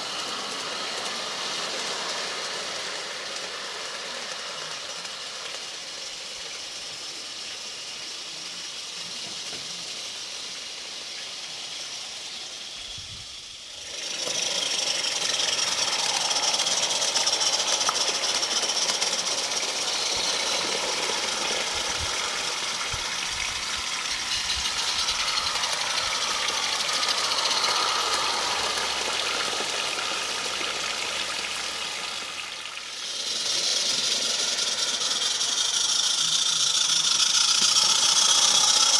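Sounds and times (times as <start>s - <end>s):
locomotive mechanical running noise: 0.0s - 38.9s
steam hissing: 0.0s - 38.9s.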